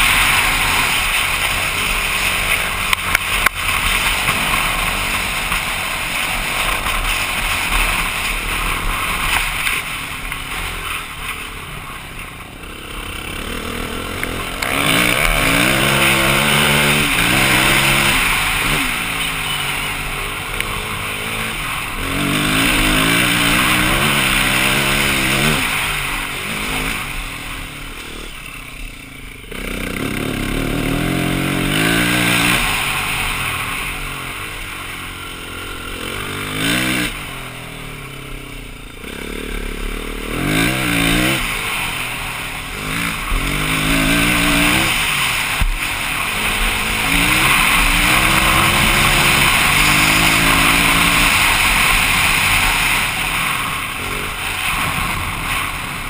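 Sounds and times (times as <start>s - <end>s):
motorcycle engine revving: 0.0s - 56.0s
steady rushing noise: 0.0s - 56.0s.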